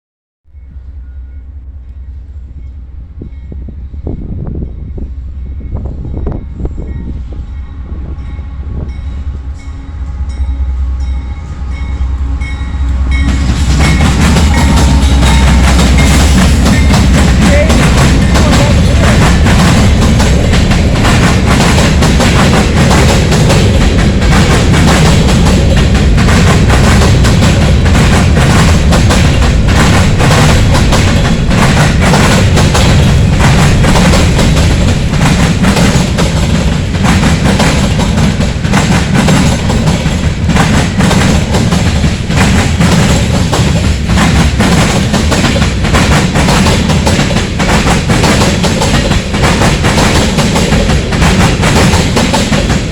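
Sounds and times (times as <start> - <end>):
freight train rumbling and clattering: 0.5 - 52.9.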